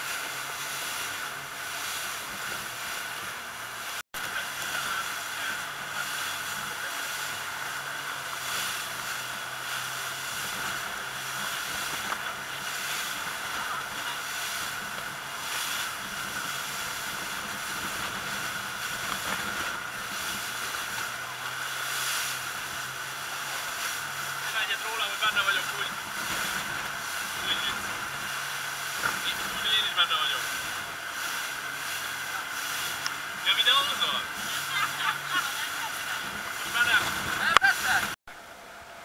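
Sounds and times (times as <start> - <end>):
rushing water and spray: 0.0 - 38.4
motorboat engine running: 0.0 - 39.0.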